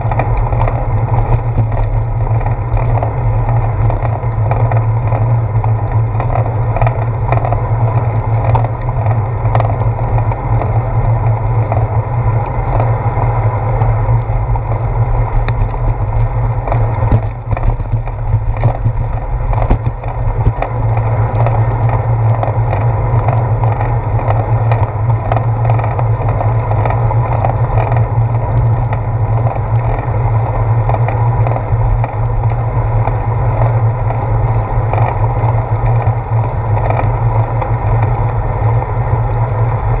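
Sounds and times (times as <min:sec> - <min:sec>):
bicycle clicks and knocks: 0:00.0 - 0:40.0
wind and road rumble: 0:00.0 - 0:40.0.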